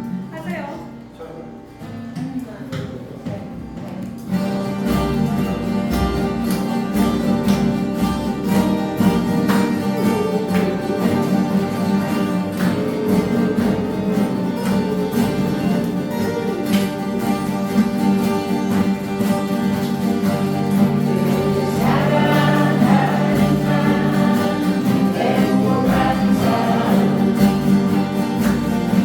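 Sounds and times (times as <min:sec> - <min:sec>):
acoustic guitars playing: 0:00.0 - 0:29.0.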